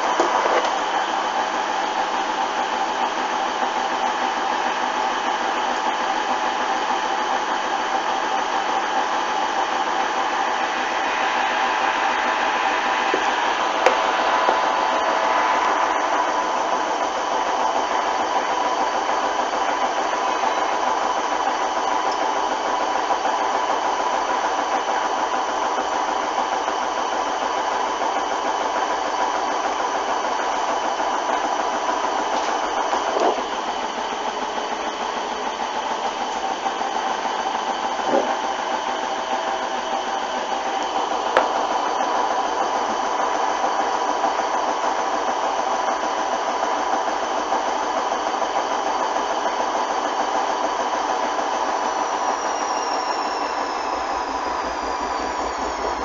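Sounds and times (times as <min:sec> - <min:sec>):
washing machine motor whine: 0:00.0 - 0:56.0.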